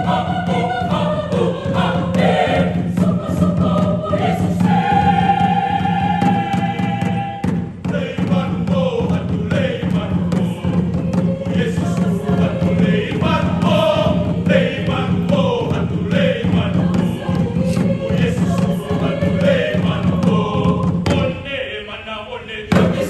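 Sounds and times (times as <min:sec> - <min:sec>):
steady drum beat: 0:00.0 - 0:21.4, 0:22.7 - 0:23.0
mixed choir singing: 0:00.0 - 0:23.0.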